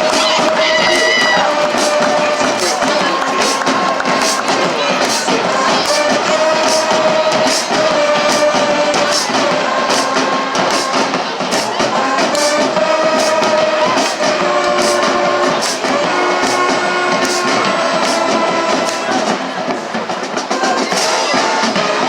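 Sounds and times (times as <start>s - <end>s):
crowd noise: 0.0s - 22.0s.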